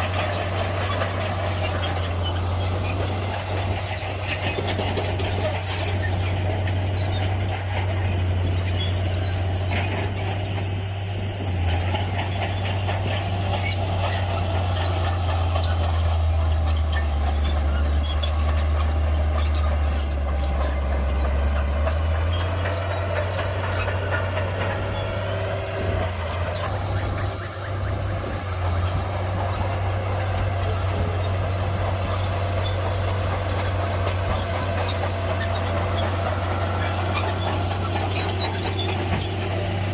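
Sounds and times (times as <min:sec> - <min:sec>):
bulldozer diesel engine under load: 0:00.0 - 0:39.9
metallic ticks and squeaks of tracks: 0:00.0 - 0:39.9.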